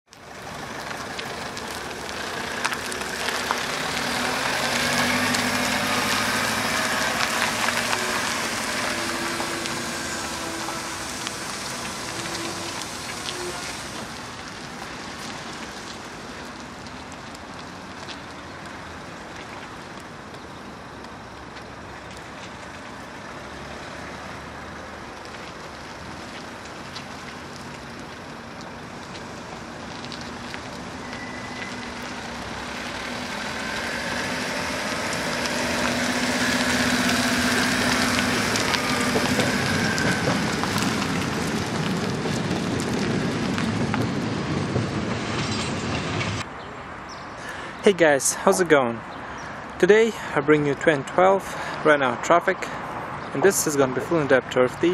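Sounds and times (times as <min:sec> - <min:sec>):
tyres crunching on dirt: 0:00.1 - 0:46.5, 0:47.4 - 0:54.9.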